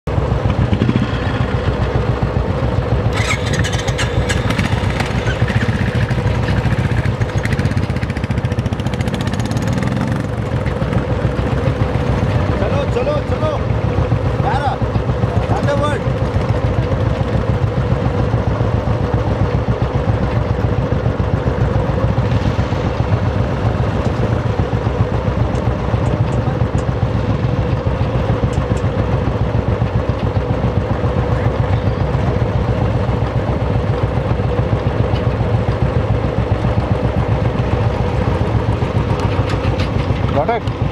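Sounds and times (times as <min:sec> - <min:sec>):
motorcycle engine idling: 0:00.1 - 0:40.9.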